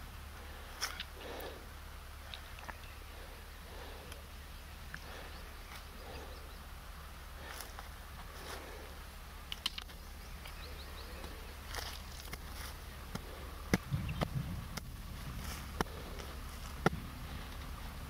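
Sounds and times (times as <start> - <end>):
rustling in undergrowth: 0.0 - 18.0.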